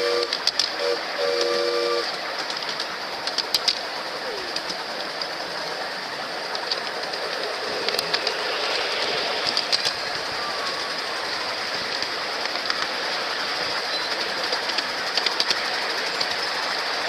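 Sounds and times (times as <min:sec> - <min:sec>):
train rolling rumble: 0:00.0 - 0:17.0
wheel clicks over rail joints: 0:00.0 - 0:17.0.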